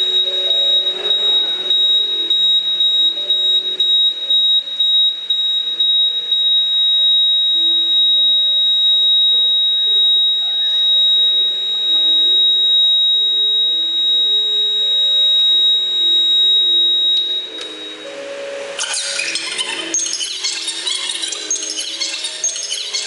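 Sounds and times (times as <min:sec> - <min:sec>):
high-pitched whine: 0:00.0 - 0:23.0.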